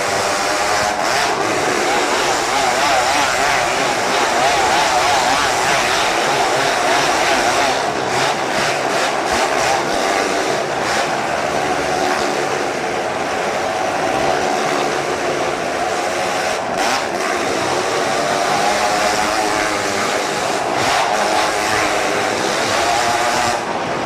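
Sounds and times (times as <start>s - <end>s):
motorcycle engines running hard: 0.0s - 24.0s.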